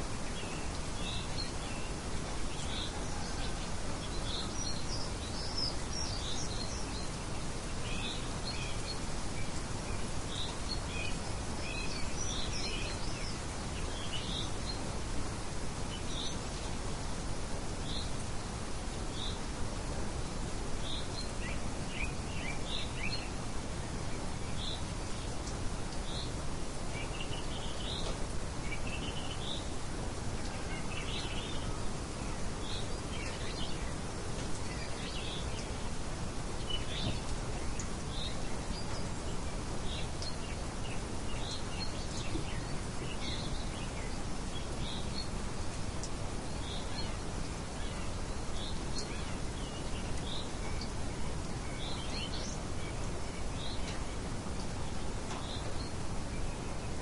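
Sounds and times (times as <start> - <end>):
light wind: 0.0 - 57.0
small birds chirping: 0.0 - 57.0.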